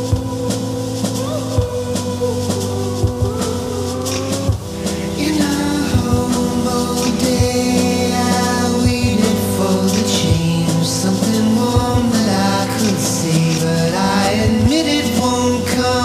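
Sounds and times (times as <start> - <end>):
electronic music with a beat: 0.0 - 16.0.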